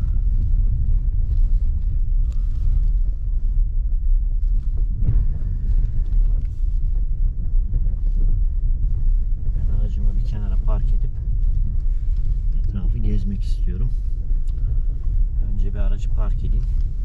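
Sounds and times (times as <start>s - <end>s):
car rumbling on dirt track: 0.0s - 17.0s.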